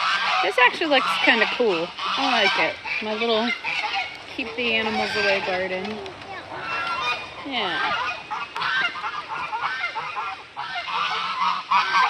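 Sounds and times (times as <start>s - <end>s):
fowl honking calls: 0.0s - 12.0s.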